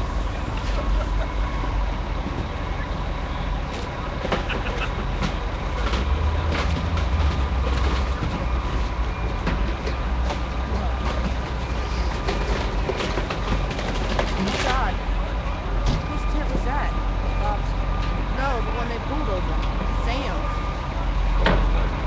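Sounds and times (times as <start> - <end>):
heavy vehicle engines rumbling: 0.0 - 22.0.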